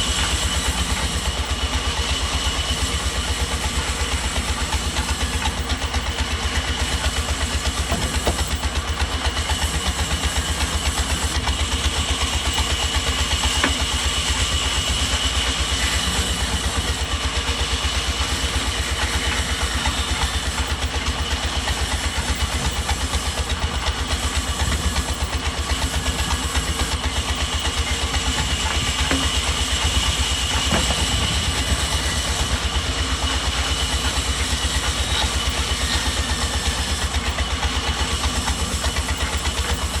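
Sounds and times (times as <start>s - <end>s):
high machine whine: 0.0s - 40.0s
low machinery throb: 0.0s - 40.0s.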